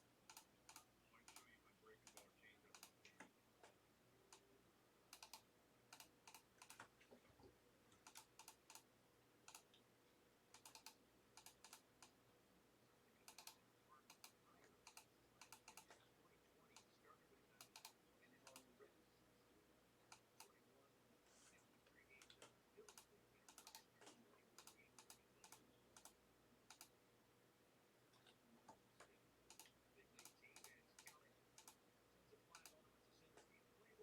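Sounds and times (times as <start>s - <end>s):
faint computer keyboard typing: 0.0s - 12.2s, 13.2s - 18.8s, 20.0s - 27.0s, 28.0s - 34.0s.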